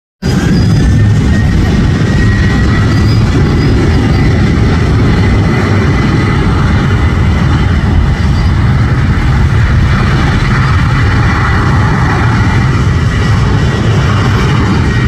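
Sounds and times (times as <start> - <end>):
jet engines at takeoff: 0.2 - 15.0.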